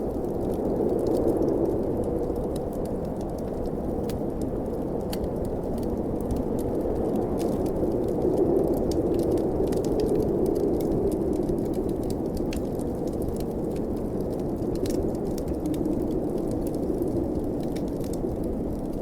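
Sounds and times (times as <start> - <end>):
blizzard wind blowing: 0.0 - 19.0
wood fire crackling: 0.0 - 19.0.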